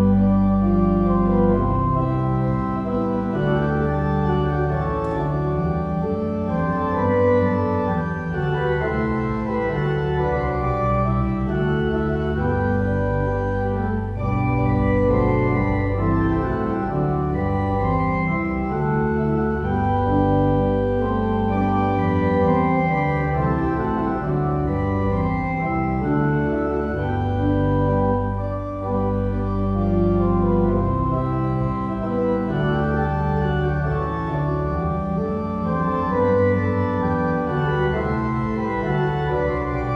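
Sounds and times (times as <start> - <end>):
organ playing slow chords: 0.0 - 39.9.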